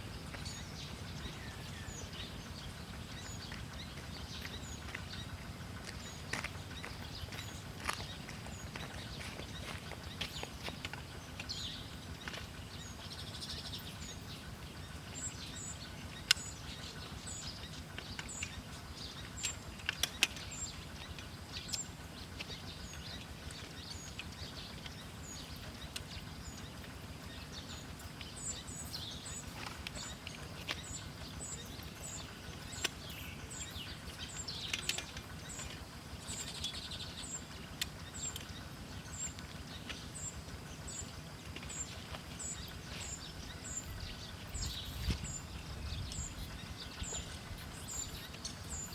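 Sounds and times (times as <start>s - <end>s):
small bird chirping: 0.0s - 48.9s
steady low hum: 0.0s - 48.9s.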